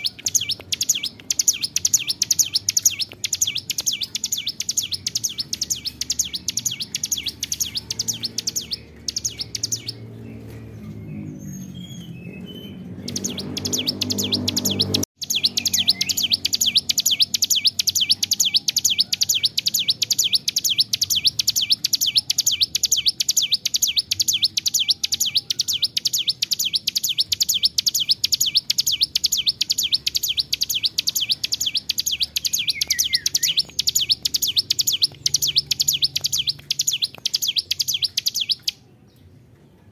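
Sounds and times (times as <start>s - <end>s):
bird song of rapid high chips: 0.0s - 39.9s.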